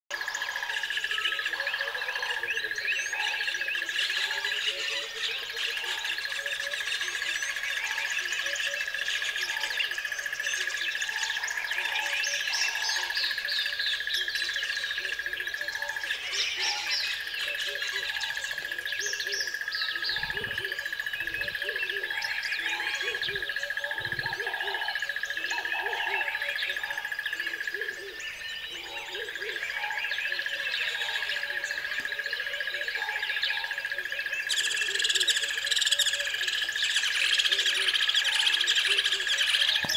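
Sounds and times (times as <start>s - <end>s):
birds chirping and calling: 0.1s - 39.9s
low hooting calls: 0.1s - 39.9s.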